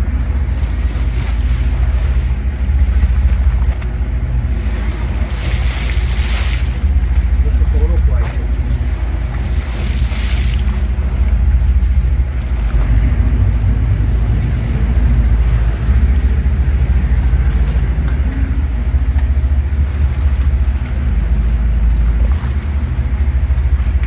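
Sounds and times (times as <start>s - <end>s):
boat engine humming: 0.0s - 24.0s
water noise: 0.0s - 24.0s
wind: 0.0s - 24.0s.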